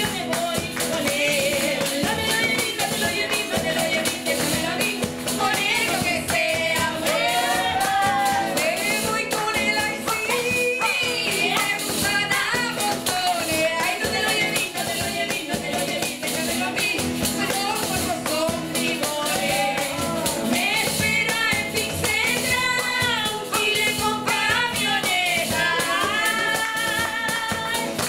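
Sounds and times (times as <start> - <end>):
strummed acoustic guitar: 0.0 - 28.0
tambourine struck and shaken: 0.0 - 28.0
women singing together: 0.0 - 28.0.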